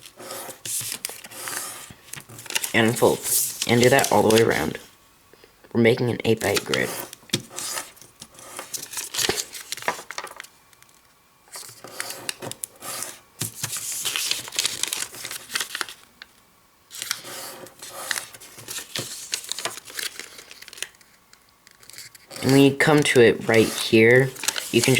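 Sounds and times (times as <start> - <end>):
paper fold clicks: 0.0 - 4.7, 6.4 - 16.3, 16.9 - 24.9
paper rustling and crinkling: 0.0 - 4.8, 6.4 - 16.1, 16.9 - 24.9.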